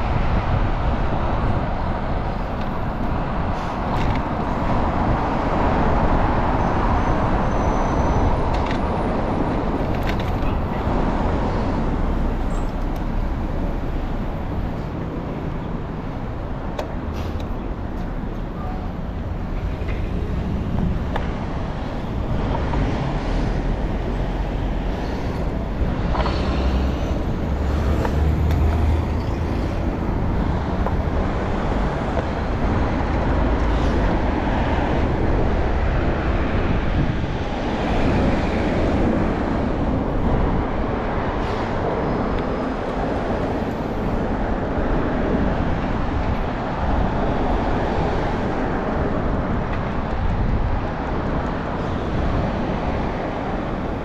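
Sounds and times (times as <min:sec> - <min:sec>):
road noise rush: 0:00.0 - 0:54.0
vehicles passing: 0:00.0 - 0:54.0.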